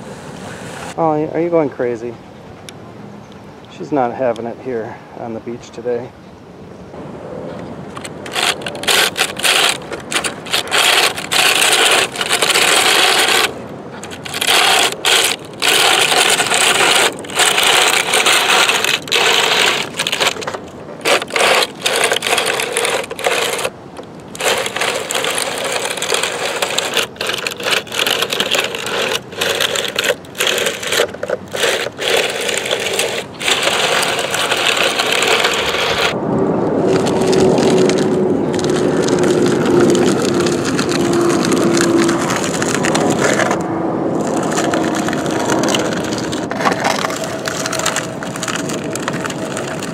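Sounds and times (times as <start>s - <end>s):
toy excavator tracks clattering on concrete: 7.9s - 36.2s, 36.9s - 49.9s.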